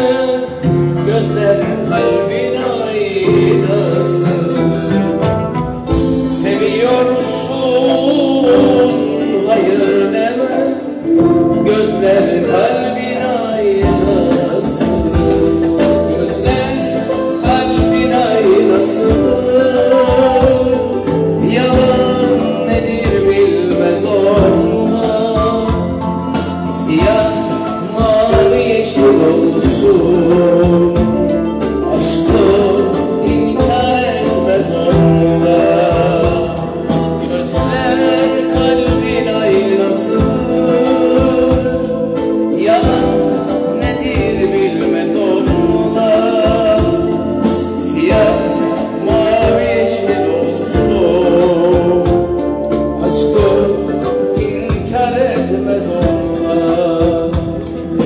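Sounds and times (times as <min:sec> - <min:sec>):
electronic keyboard: 0:00.0 - 0:58.0
man singing: 0:00.0 - 0:58.0.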